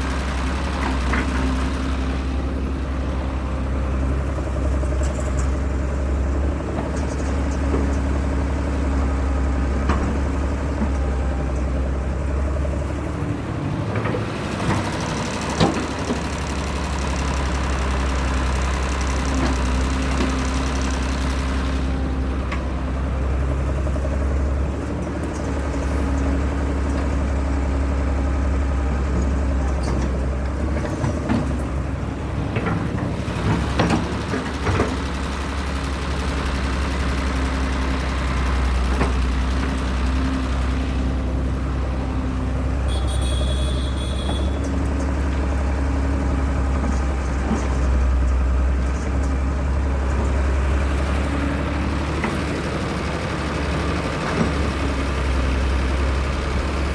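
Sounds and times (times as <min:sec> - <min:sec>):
excavator diesel engine rumbling: 0:00.0 - 0:56.9.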